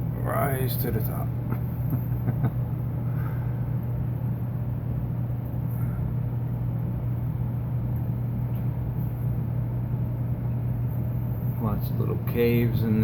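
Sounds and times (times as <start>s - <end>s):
aquarium filter motor humming: 0.0s - 13.0s.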